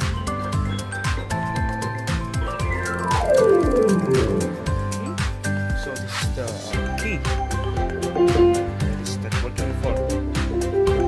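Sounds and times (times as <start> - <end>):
digital piano notes: 0.0 - 9.3
steady drum beat: 0.1 - 11.0.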